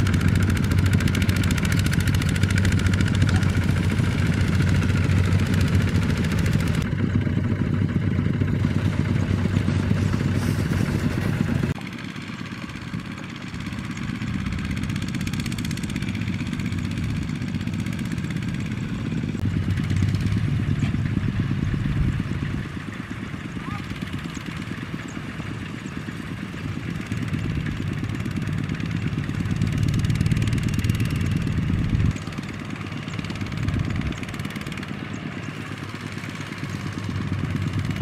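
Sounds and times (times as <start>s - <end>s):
diesel engine running: 0.0s - 38.0s
engine clatter: 0.0s - 38.0s.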